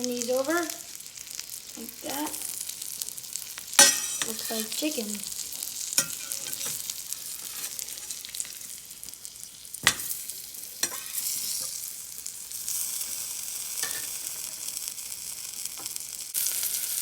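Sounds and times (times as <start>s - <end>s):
frog legs sizzling in butter: 0.0s - 17.0s
sharp pops of frying: 0.0s - 17.0s.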